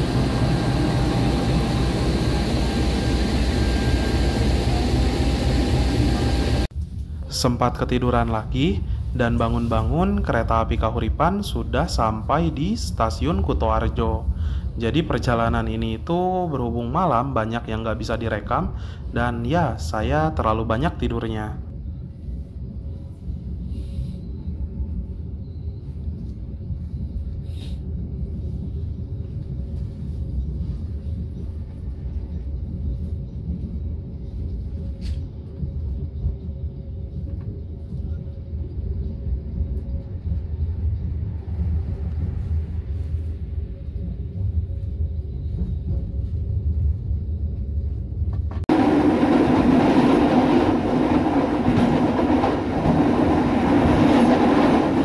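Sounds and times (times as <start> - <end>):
train running on track: 0.0 - 7.0, 7.9 - 55.0
faint steady hum: 0.0 - 48.8
train rumble inside carriage: 0.0 - 55.0.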